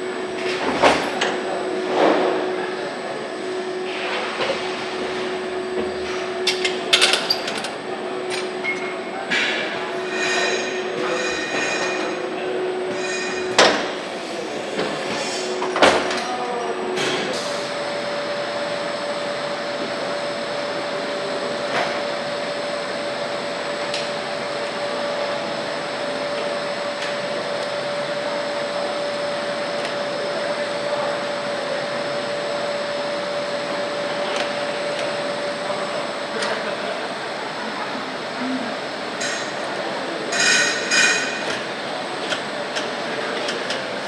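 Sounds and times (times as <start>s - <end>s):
factory machinery whirring: 0.0s - 44.0s.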